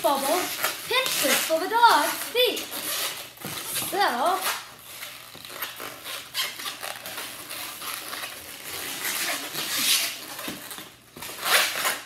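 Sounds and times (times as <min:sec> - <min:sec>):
balloon squeaking and rubbing: 0:00.0 - 0:12.0.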